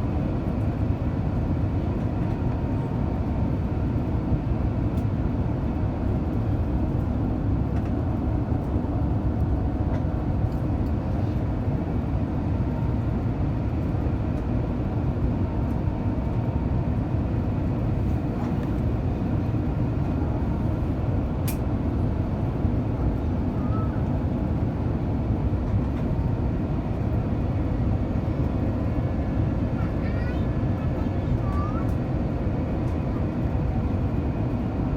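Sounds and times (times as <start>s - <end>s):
airplane engines rumbling: 0.0s - 34.9s.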